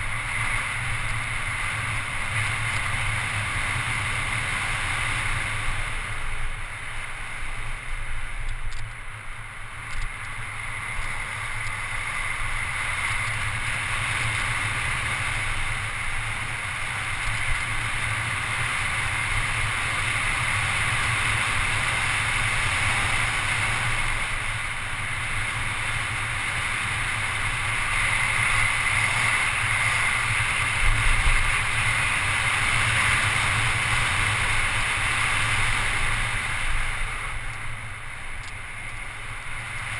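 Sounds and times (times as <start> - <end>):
bike tyres rolling on asphalt: 0.0 - 39.9.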